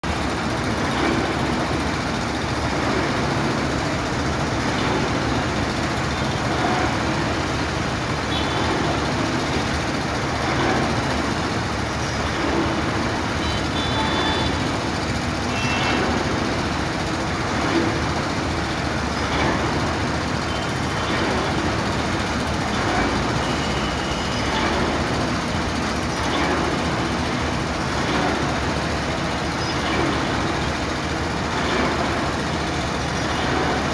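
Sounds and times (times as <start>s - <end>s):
engine running: 0.0s - 33.9s
machine or traffic noise: 0.0s - 33.9s.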